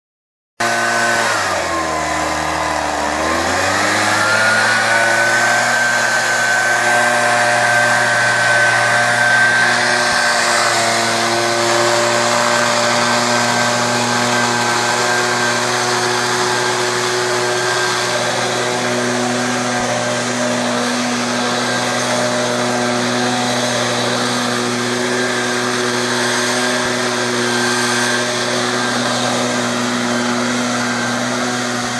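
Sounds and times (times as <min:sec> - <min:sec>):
leaf blower whining: 0:00.6 - 0:31.9.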